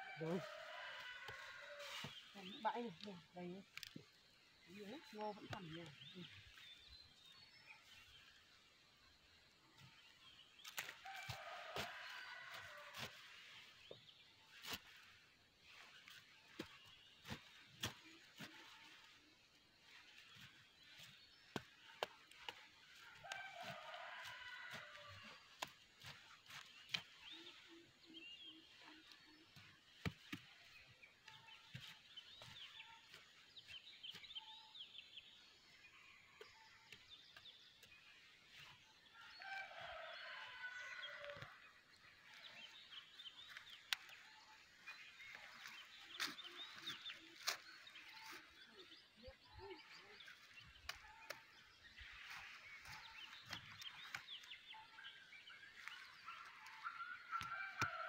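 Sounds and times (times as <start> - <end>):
small birds chirping: 0.2 - 58.0.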